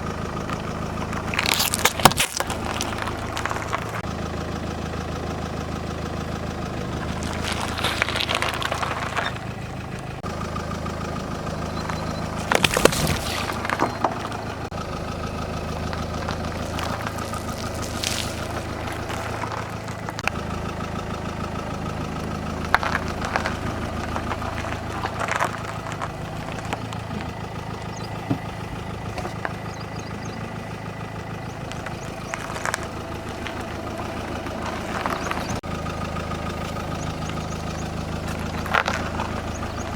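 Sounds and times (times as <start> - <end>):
car engine idling: 0.0 - 39.9
car tyre crushing objects: 0.0 - 39.9.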